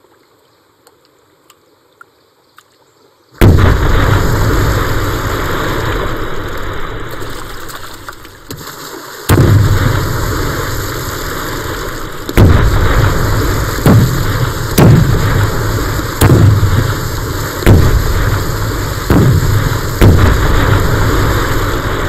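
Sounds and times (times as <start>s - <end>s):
explosions with rumble: 3.4s - 8.5s, 9.3s - 22.0s.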